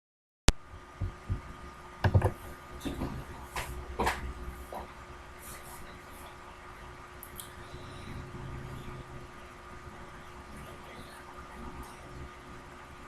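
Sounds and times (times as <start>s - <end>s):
faint steady hum: 0.5s - 13.0s.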